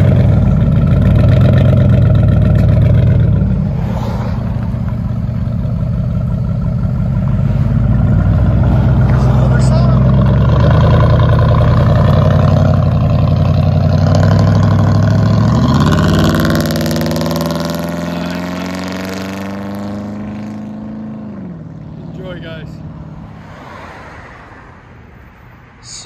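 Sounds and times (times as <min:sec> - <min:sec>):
truck engine accelerating: 0:00.0 - 0:23.3.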